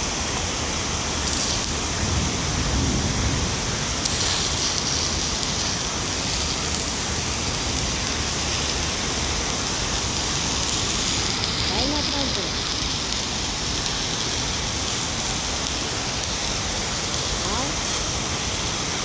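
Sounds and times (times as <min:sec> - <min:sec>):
background hiss: 0:00.0 - 0:19.0
welding arc crackling hiss: 0:00.0 - 0:19.0.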